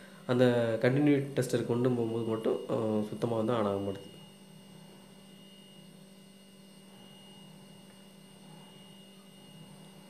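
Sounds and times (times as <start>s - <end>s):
low electrical hum: 0.0s - 10.0s
thin high whine: 0.0s - 10.0s.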